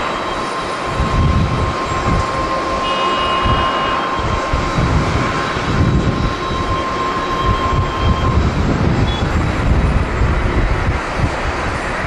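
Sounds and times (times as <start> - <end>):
jet engines whining: 0.0 - 12.0
wind buffeting microphone: 0.0 - 12.0.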